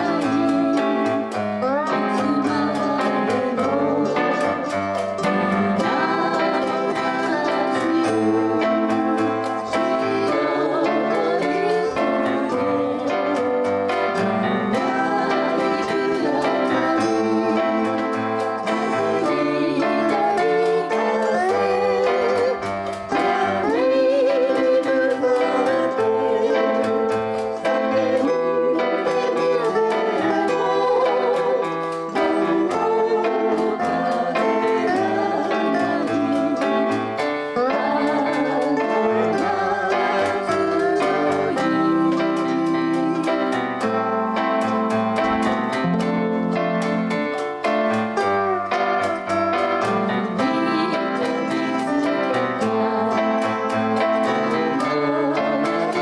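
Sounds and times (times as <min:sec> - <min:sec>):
bongos: 0:00.0 - 0:56.0
keyboard: 0:00.0 - 0:56.0
steel guitar sliding notes: 0:00.0 - 0:56.0
ukulele: 0:00.0 - 0:56.0.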